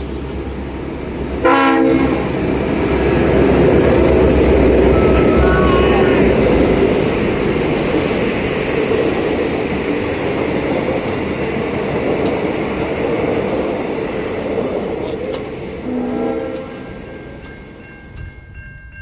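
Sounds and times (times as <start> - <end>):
diesel train rumbling past: 0.0 - 19.0.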